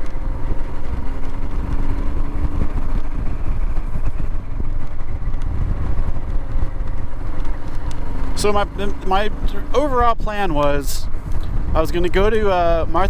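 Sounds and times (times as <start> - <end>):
motorcycle engine running: 0.0 - 11.8
wind rumbling over microphone: 0.0 - 13.0.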